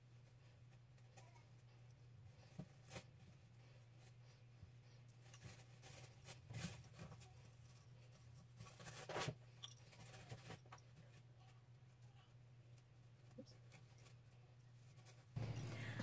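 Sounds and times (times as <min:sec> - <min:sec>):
rustling and scratching of hair: 0:00.0 - 0:16.0.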